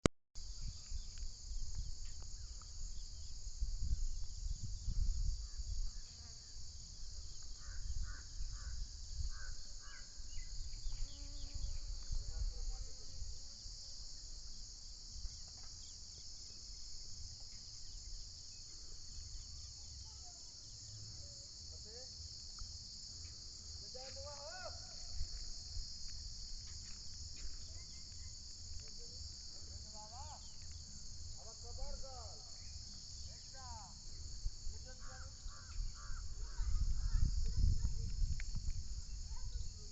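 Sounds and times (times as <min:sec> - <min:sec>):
insect chorus shrilling: 0:00.4 - 0:39.9.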